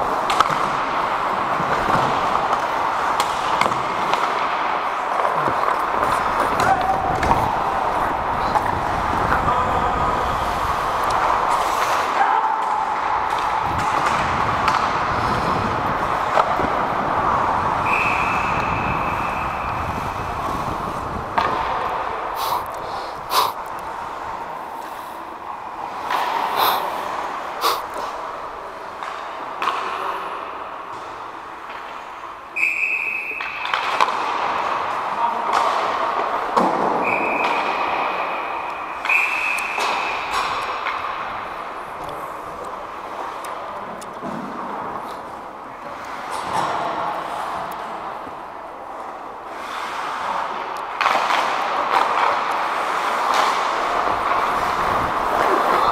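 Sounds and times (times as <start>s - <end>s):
skates scraping on ice: 0.0s - 55.9s
sticks and puck clacking: 0.0s - 55.9s.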